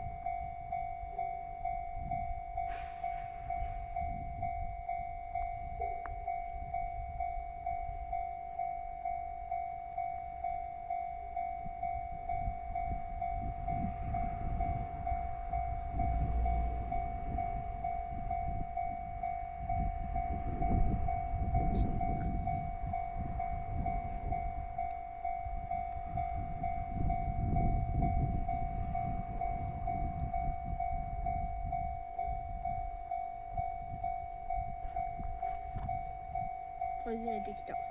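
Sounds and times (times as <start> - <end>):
level crossing bell ringing: 0.0 - 37.9
passing train rumble: 0.0 - 37.9.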